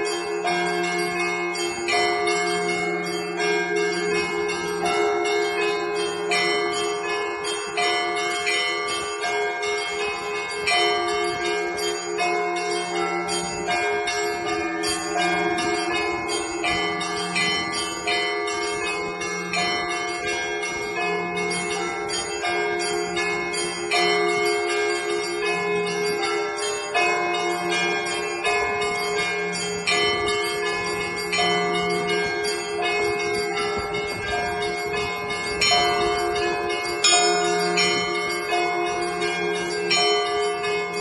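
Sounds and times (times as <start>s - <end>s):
higher church bells: 0.0s - 41.0s
low church bell: 0.0s - 41.0s
small church bells ringing rapidly: 0.0s - 41.0s.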